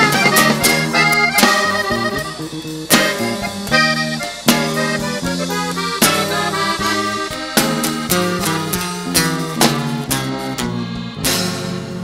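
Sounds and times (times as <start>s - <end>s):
button accordion melody: 0.0s - 12.0s
live band music: 0.0s - 12.0s
sharp drum accents: 0.0s - 12.0s.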